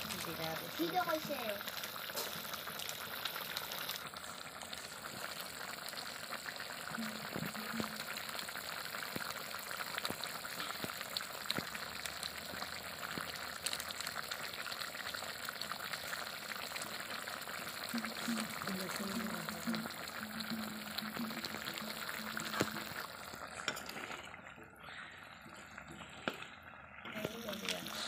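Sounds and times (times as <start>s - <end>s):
curry sizzling: 0.0s - 28.0s
gravy bubbling with pops: 0.0s - 28.0s.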